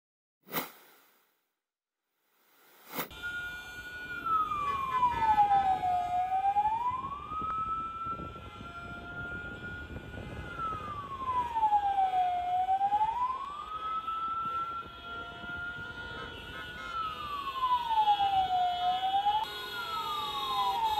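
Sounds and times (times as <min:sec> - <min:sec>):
street traffic: 0:03.0 - 0:20.9
siren wailing: 0:03.1 - 0:20.9.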